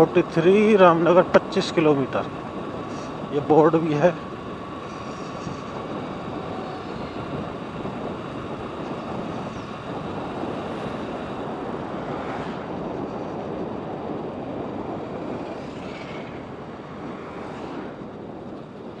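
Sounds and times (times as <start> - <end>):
motorcycle wind and road noise: 0.0 - 19.0
oncoming vehicles passing: 0.0 - 19.0.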